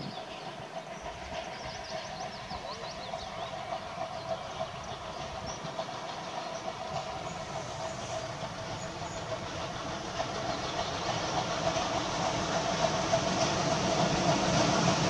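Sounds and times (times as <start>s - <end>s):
distant steam locomotive running: 0.0s - 15.0s.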